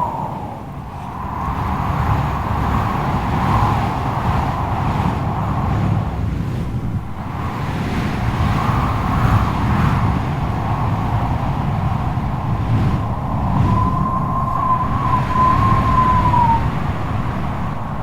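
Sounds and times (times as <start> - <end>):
strong wind howling in gusts: 0.0 - 18.0.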